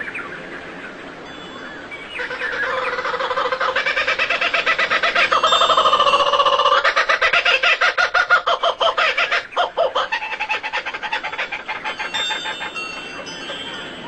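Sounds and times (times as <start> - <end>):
bird calling in rapid pulses: 2.1 - 14.0.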